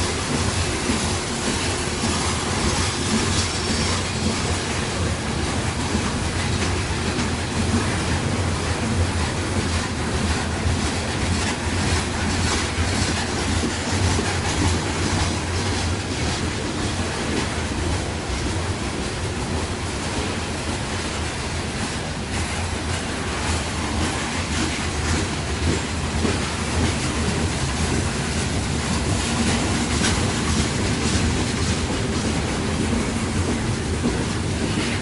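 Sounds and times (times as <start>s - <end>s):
train wheels rumbling on track: 0.0s - 35.0s.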